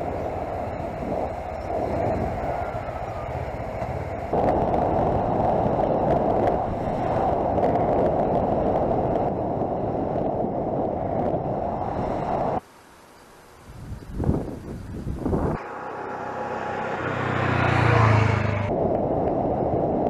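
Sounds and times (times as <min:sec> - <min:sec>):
wind and road noise rushing: 0:00.0 - 0:12.7, 0:13.6 - 0:20.0
faint roadside ambience: 0:00.0 - 0:19.9.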